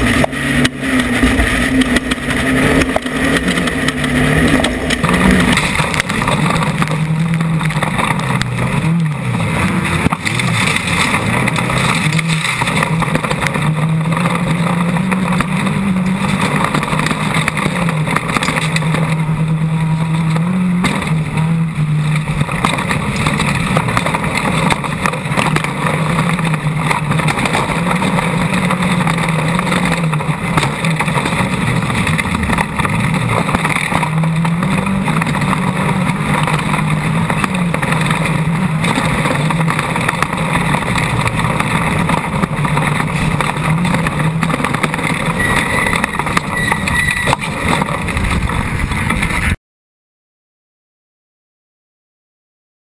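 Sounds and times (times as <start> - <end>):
race vehicle engine accelerating: 0.0 - 49.6
rattling and rough terrain noise: 0.0 - 49.6.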